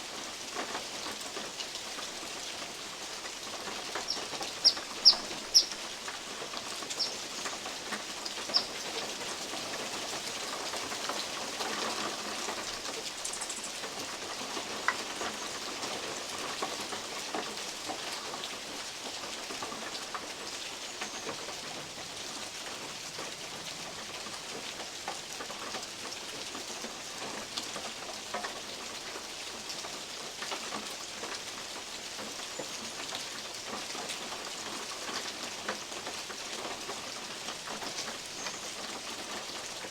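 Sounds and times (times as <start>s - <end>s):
rain falling through trees: 0.0s - 39.9s.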